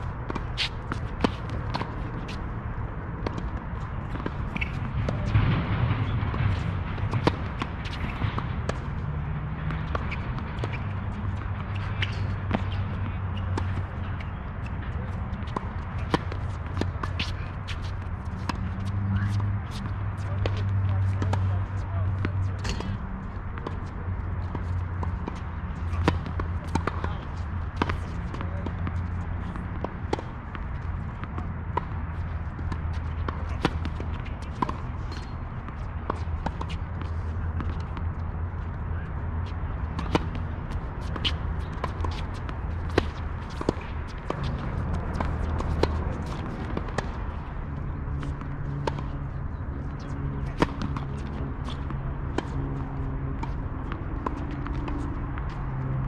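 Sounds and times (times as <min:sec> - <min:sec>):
tennis ball bouncing on court: 0:00.0 - 0:55.8
tennis ball struck by rackets: 0:00.3 - 0:02.4, 0:03.2 - 0:08.8, 0:09.7 - 0:23.0, 0:24.4 - 0:38.0, 0:39.9 - 0:47.2, 0:48.2 - 0:49.2, 0:49.9 - 0:53.5.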